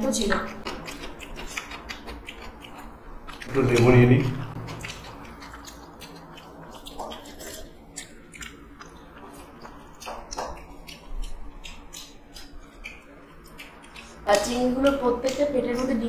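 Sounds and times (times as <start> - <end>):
chewing and lip smacking: 0.0 - 16.0.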